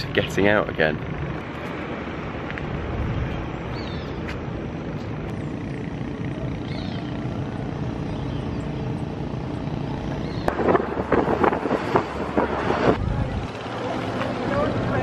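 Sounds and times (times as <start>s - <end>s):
motorcycle taxis running: 0.0s - 15.0s.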